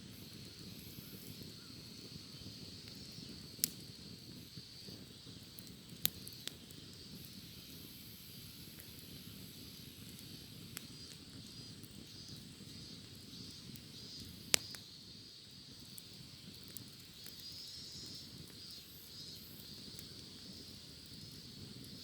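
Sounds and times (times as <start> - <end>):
bonfire crackling: 0.0 - 22.0
cicadas droning: 0.0 - 22.0
sharp pops from fire: 0.0 - 22.0.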